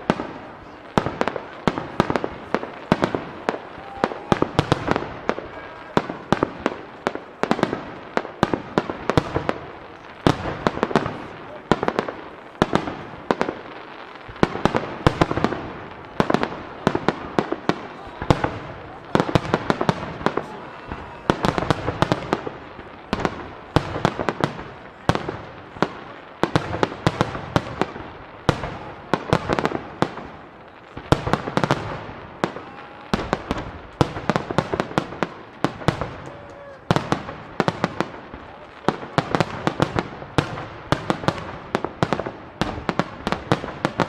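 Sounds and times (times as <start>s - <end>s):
fireworks bursting: 0.0s - 44.0s.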